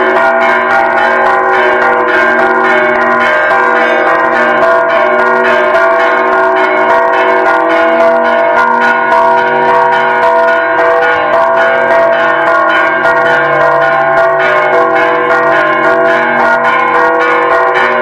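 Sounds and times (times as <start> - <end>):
church bells ringing together: 0.0 - 18.0.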